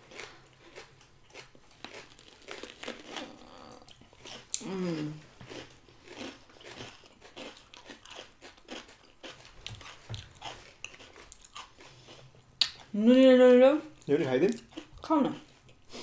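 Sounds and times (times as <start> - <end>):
chewing crunchy snack: 0.0 - 12.9, 13.9 - 16.0.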